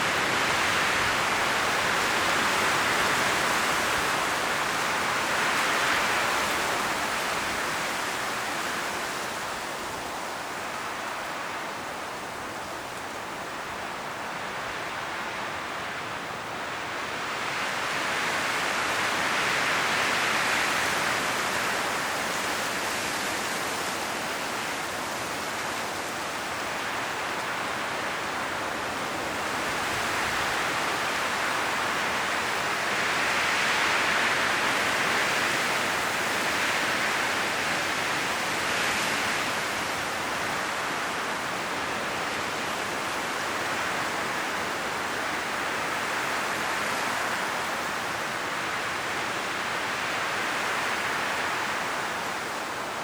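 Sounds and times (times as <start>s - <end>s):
wind rustling tree leaves: 0.0s - 53.0s.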